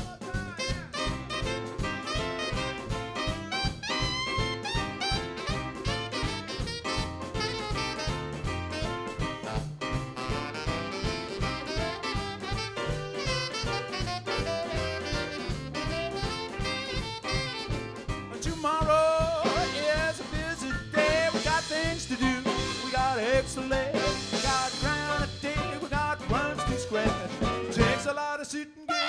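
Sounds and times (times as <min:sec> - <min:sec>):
swing band playing: 0:00.0 - 0:29.0.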